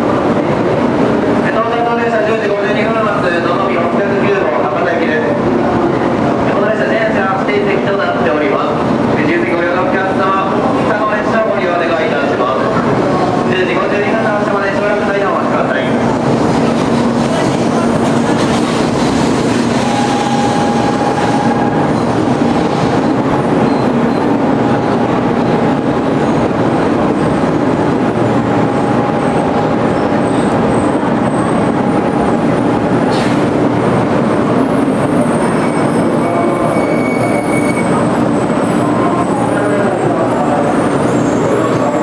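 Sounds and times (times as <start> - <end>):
train running noise rush: 0.0 - 42.0.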